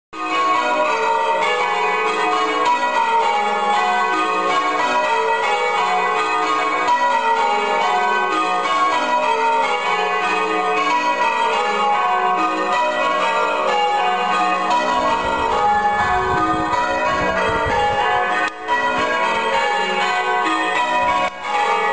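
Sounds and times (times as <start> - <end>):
church bells ringing: 0.2 - 21.9.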